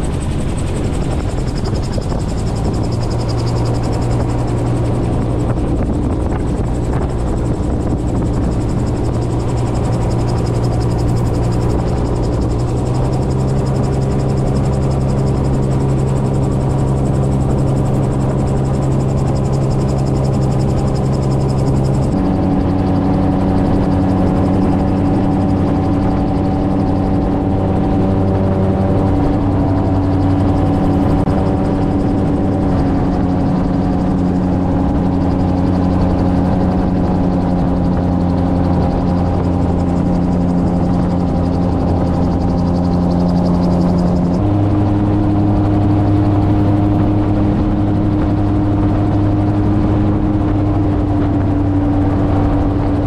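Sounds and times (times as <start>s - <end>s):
gyrocopter engine and propeller droning: 0.0s - 53.0s.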